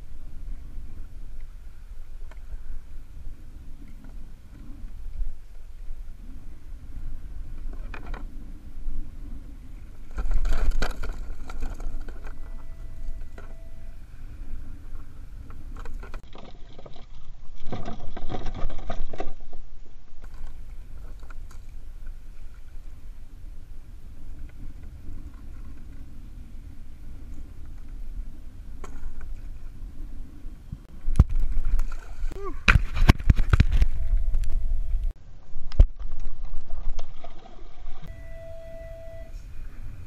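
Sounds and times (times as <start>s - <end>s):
wind and water rumble: 0.0s - 40.0s.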